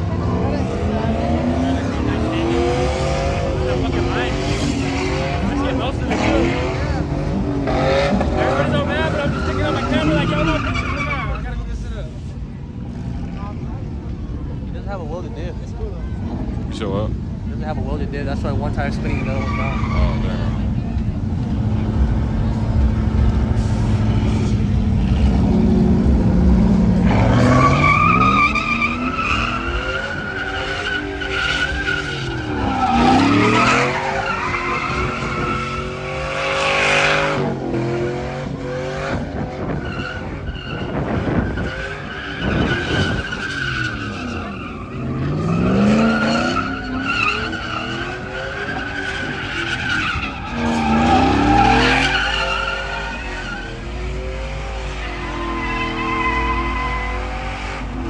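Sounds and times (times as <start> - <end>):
truck engine revving: 0.0 - 14.4, 16.1 - 58.0
tires squealing: 0.0 - 58.0.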